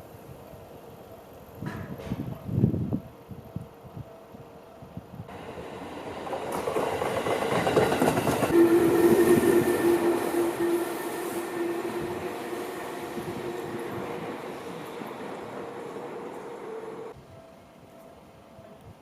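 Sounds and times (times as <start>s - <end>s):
electric train passing: 2.4s - 19.0s.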